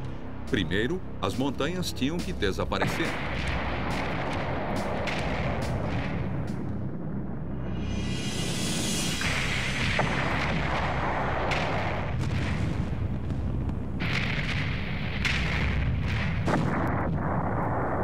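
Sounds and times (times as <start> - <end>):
rock-blasting explosions: 2.8 - 18.0.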